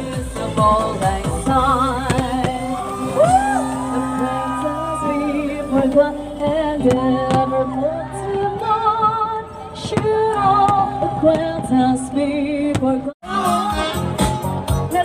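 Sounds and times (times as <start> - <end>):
woman singing slow melody: 0.0 - 13.9
song playing: 0.0 - 15.0.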